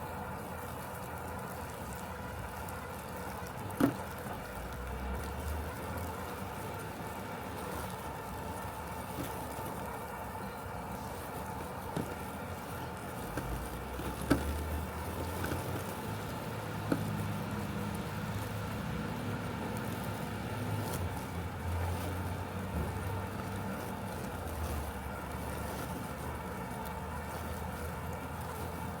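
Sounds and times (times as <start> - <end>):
robotic lawn mower humming: 0.0 - 29.0.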